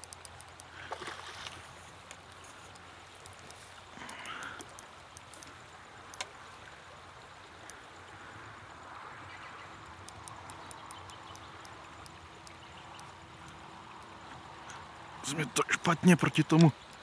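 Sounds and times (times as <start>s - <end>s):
light ticks: 0.0s - 8.1s, 9.3s - 15.1s, 15.7s - 17.0s
water splashing: 0.0s - 17.0s.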